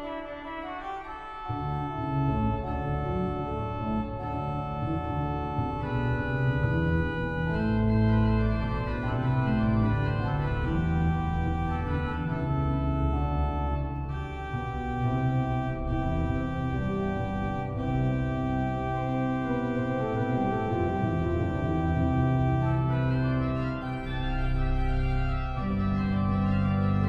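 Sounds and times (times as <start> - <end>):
pipe organ chords: 0.0 - 27.0
deep bass pedal notes: 1.5 - 27.0.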